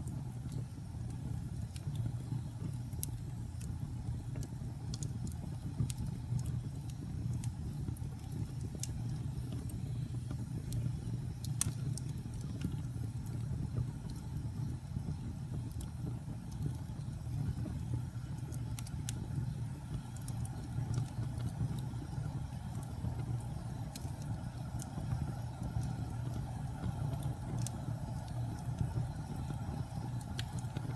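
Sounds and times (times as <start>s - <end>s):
fire crackling and popping: 0.0s - 30.9s
fire flames rumbling: 0.0s - 30.9s.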